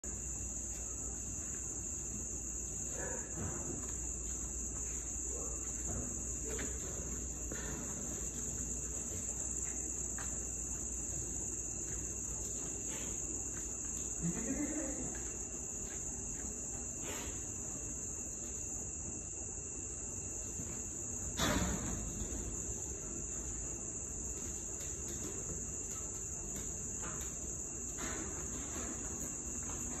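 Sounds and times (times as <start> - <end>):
crickets trilling: 0.0 - 30.0
high-pitched insect chorus: 0.0 - 30.0.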